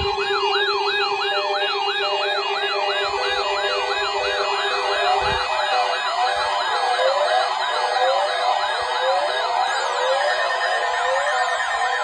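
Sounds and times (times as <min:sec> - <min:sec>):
sweeping siren-like alarm tone: 0:00.0 - 0:12.0.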